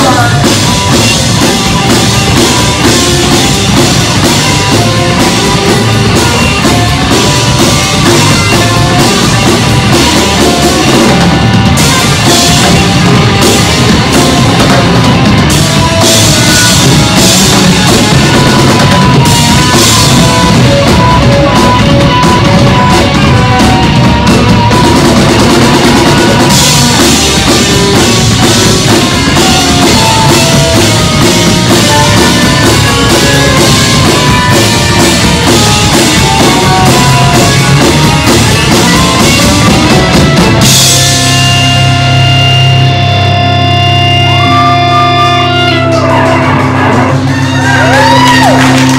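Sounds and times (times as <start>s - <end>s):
high note stabs: 0.0s - 47.6s
rock band playing: 0.0s - 48.9s.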